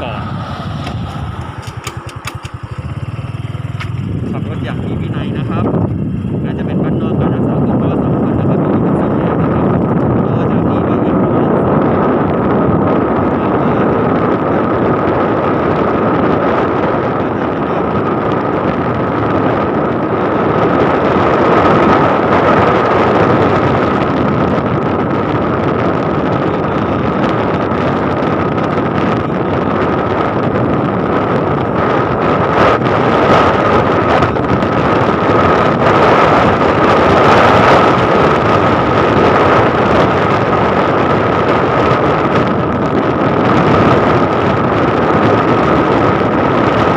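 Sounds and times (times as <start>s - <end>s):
constant high whine: 0.0s - 46.9s
motorcycle engine running: 0.0s - 46.9s
wind rushing over microphone: 0.0s - 46.9s.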